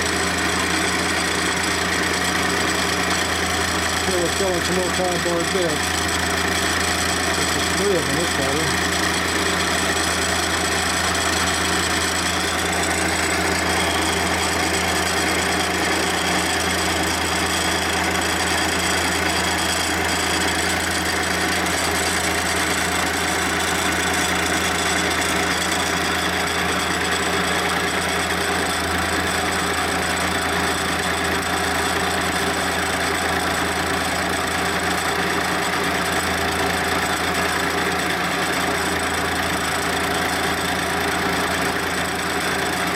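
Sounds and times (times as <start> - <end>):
motor hum: 0.0 - 42.9.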